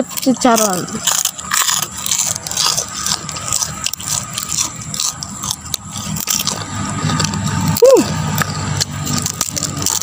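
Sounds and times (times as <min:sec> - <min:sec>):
crunching crispy food: 0:00.0 - 0:10.0.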